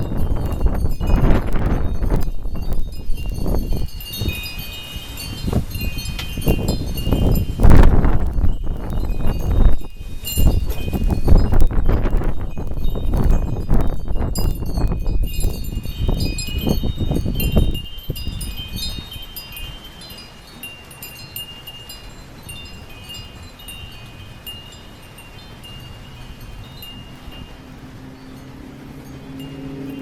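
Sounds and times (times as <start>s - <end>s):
metal wind chimes ringing: 0.0s - 30.0s
wind buffeting microphone: 0.0s - 30.0s.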